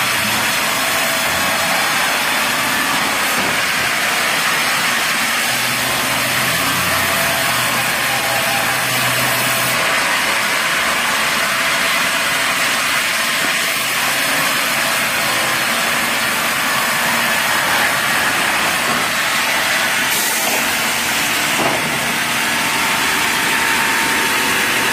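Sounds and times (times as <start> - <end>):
band saw cutting through log: 0.0 - 24.9.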